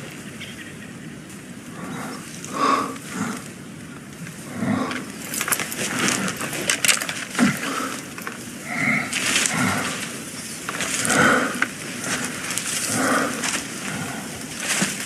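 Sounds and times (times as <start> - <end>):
wind in forest: 0.0 - 15.0.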